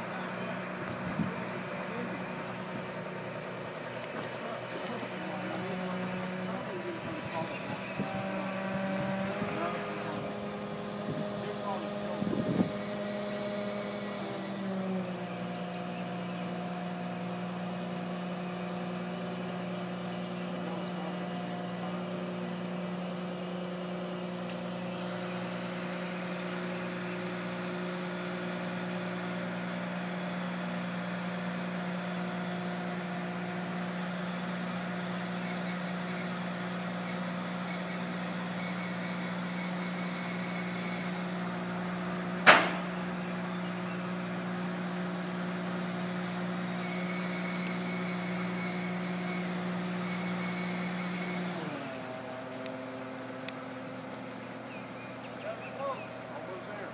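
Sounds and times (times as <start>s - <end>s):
crane engine running under load: 0.0s - 56.9s.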